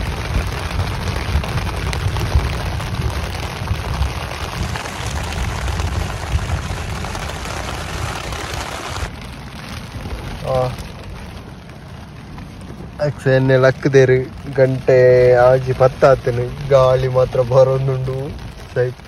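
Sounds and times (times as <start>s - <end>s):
heavy rain drumming on tent: 0.0s - 19.0s
wind buffeting tent: 0.0s - 19.0s.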